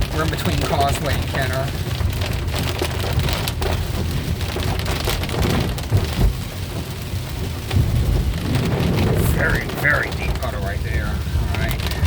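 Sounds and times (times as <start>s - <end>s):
heavy rain on car body: 0.0s - 12.0s
low rumble of moving car: 0.0s - 12.0s.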